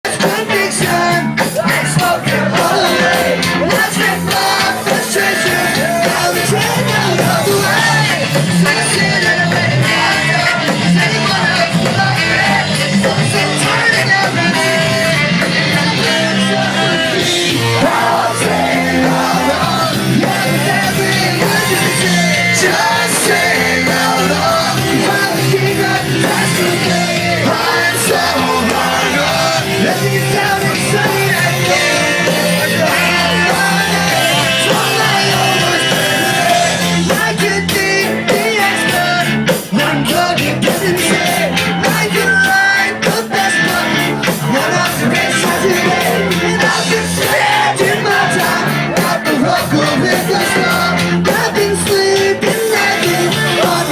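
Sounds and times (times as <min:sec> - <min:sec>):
punk band playing live: 0:00.0 - 0:53.9
person singing and shouting: 0:00.1 - 0:53.9.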